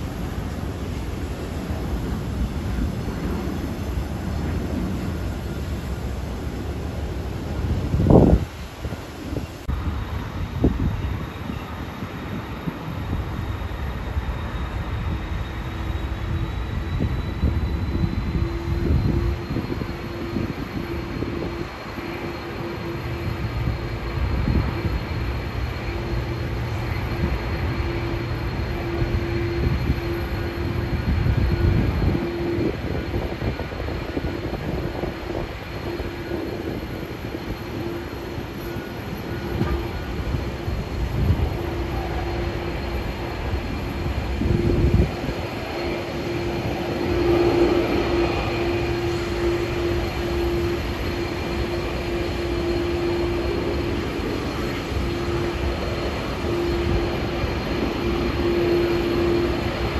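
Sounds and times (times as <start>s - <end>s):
jet engine drone and whine: 0.0s - 59.9s.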